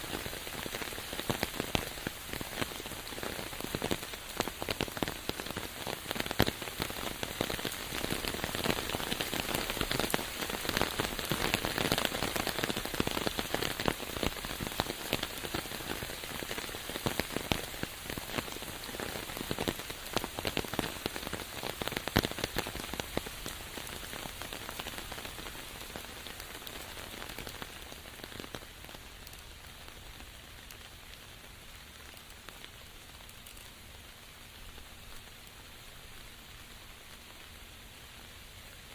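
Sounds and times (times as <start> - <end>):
rain falling with drop hits: 0.0 - 38.9.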